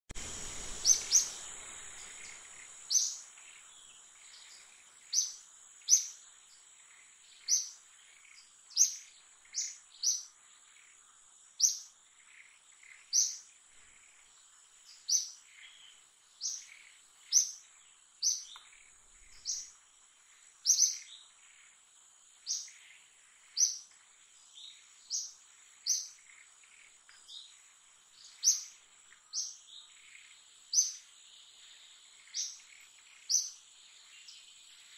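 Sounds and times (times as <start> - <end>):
bird chirping: 0.2 - 34.9.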